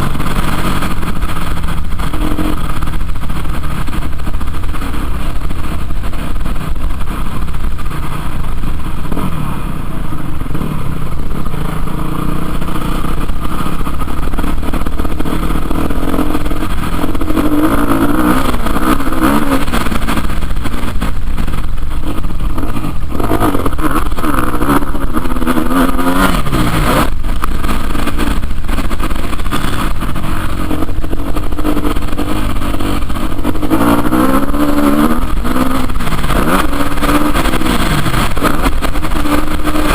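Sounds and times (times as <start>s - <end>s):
low rumble: 0.0s - 39.9s
motorcycle engines revving: 0.0s - 39.9s.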